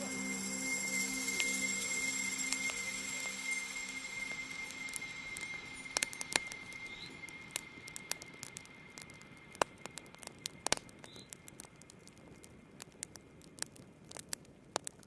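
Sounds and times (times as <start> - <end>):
faint hiss: 0.0 - 15.0
wood fire crackling: 0.0 - 15.0.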